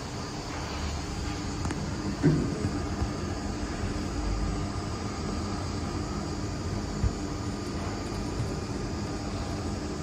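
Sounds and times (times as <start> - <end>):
solder paste printer humming: 0.0 - 10.0.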